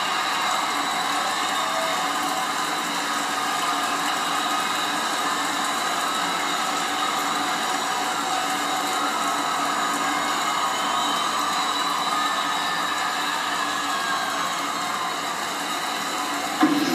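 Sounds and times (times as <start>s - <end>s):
crowd cheering and screaming: 0.0s - 16.9s.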